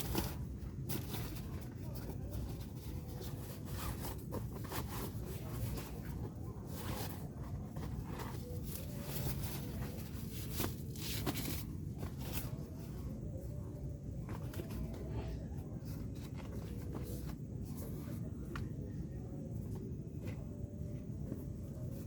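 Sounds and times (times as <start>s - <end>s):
rustling and clicking handling noises: 0.0s - 22.0s.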